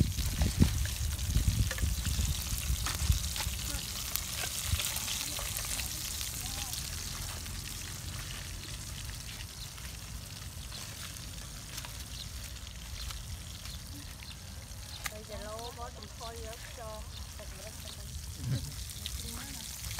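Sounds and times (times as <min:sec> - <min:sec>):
fish sizzling in oil: 0:00.0 - 0:19.9.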